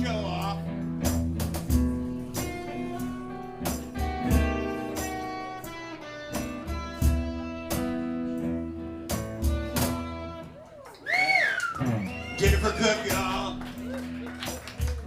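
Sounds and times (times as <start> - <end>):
strummed guitar chords: 0.0 - 10.5, 11.8 - 15.0
guitar solo: 1.8 - 15.0.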